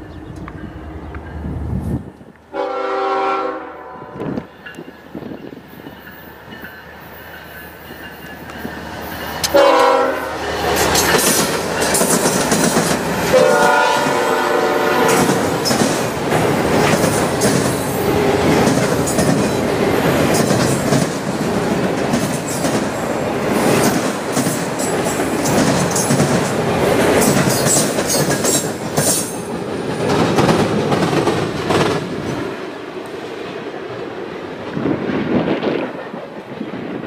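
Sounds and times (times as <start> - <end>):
freight train wheels clicking and rumbling: 0.0 - 2.6, 4.1 - 37.0.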